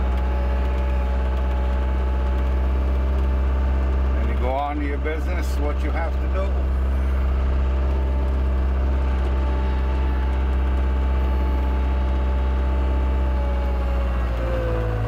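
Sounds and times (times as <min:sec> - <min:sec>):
diesel engine humming: 0:00.0 - 0:15.0
high machine whine: 0:00.0 - 0:15.0.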